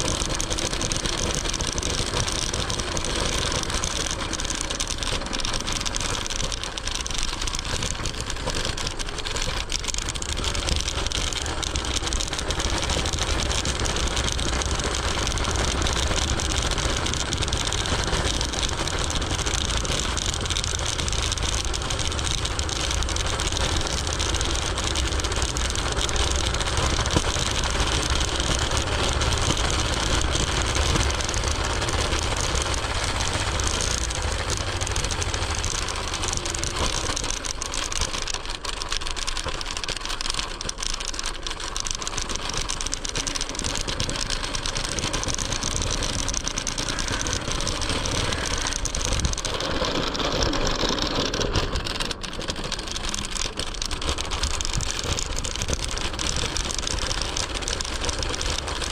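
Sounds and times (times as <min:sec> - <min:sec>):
street traffic engines: 0:00.0 - 0:58.9
tyre and road noise: 0:00.0 - 0:58.9.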